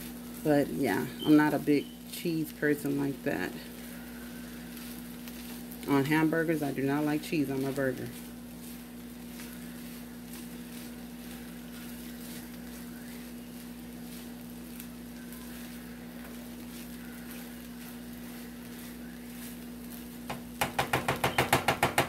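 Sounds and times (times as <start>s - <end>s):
food sizzling in a skillet: 0.0s - 22.0s
spatula scraping skillet: 0.0s - 22.0s
steady low hum: 0.0s - 22.0s.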